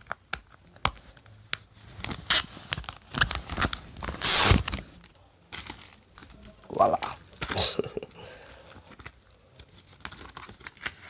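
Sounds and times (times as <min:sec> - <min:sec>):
plastic wrap crinkling and ripping: 0:01.9 - 0:11.0.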